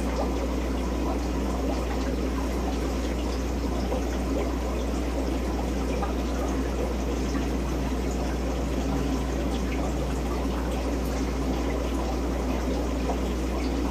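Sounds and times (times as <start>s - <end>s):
aquarium pump humming: 0.0s - 13.9s
water trickling and bubbling: 0.0s - 13.9s.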